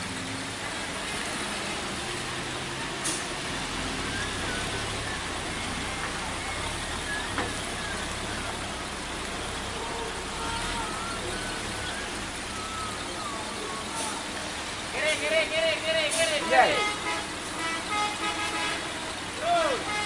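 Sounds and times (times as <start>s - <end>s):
diesel truck engine labouring: 0.0s - 20.0s
rain hissing on wet road: 0.0s - 20.0s.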